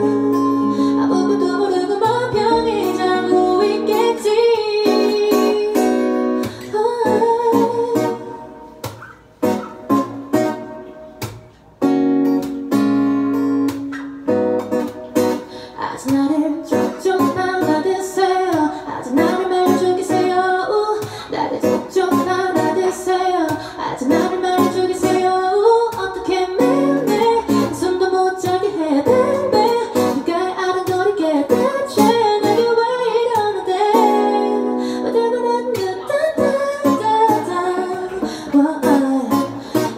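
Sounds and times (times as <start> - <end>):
woman singing into a microphone: 0.0 - 11.0, 14.7 - 39.9
strummed acoustic guitar: 0.0 - 39.9.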